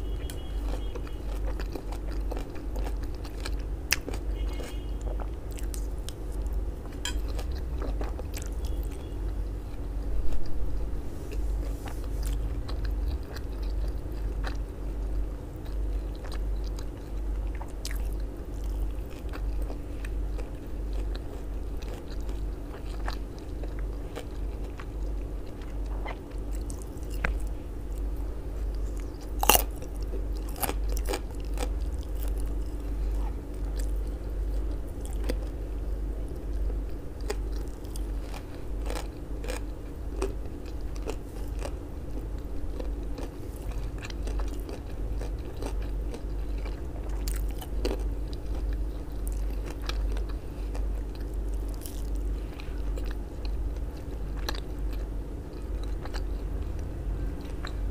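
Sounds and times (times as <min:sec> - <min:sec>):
chewing and crunching: 0:00.0 - 0:57.9
low electrical hum: 0:00.0 - 0:57.9.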